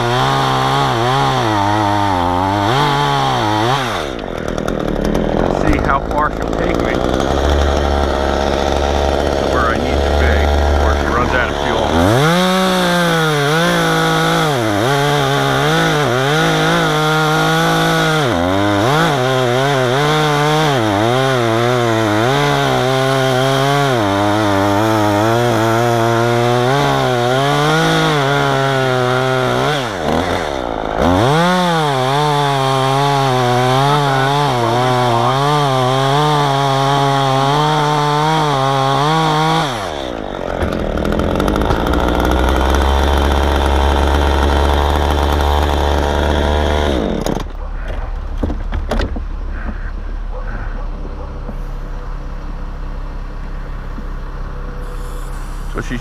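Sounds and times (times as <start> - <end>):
chainsaw cutting wood: 0.0 - 52.0, 53.8 - 56.0.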